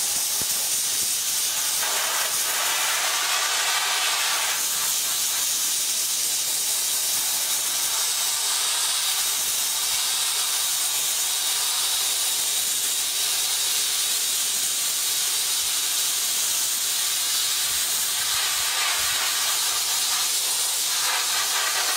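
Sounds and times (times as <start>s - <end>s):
blaster nozzle hissing: 0.0s - 21.9s.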